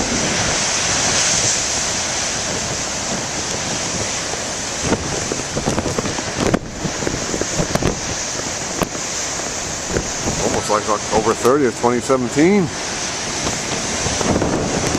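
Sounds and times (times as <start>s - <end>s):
ocean surf breaking: 0.0s - 14.9s
wind buffeting microphone: 0.0s - 14.9s.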